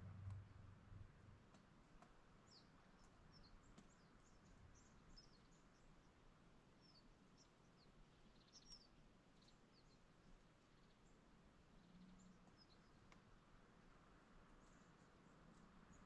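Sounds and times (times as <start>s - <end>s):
small birds chirping: 1.5s - 16.0s.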